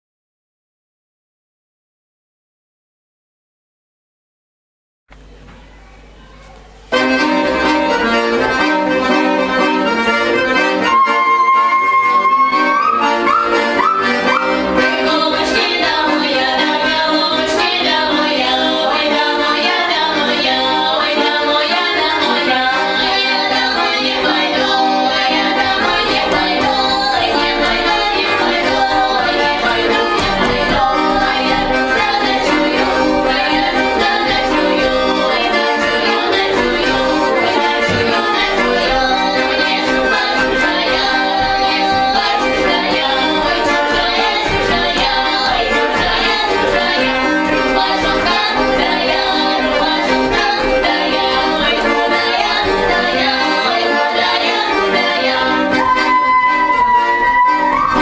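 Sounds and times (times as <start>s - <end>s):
women singing in harmony: 8.2s - 58.0s.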